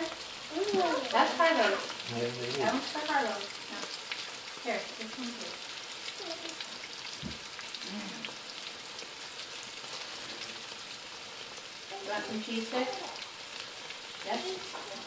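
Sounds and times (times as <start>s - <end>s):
mushrooms sizzling in fat: 0.0s - 15.0s.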